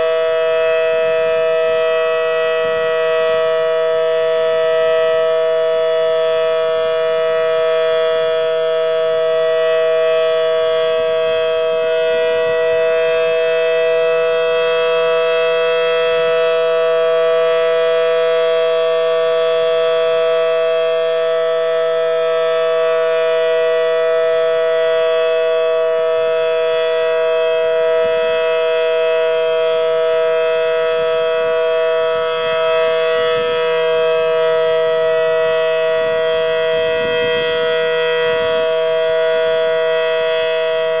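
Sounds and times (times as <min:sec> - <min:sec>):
warning siren steady chord: 0:00.0 - 0:41.0.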